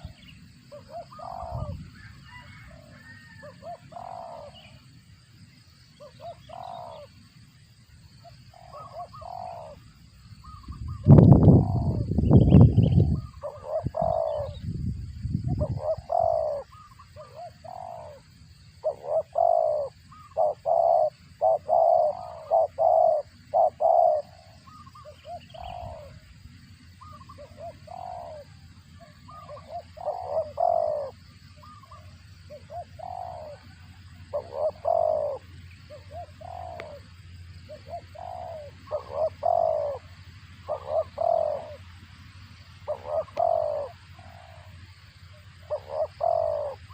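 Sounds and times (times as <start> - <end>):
dove cooing: 0.0 - 4.9, 6.0 - 7.2, 8.3 - 14.8, 15.5 - 46.9.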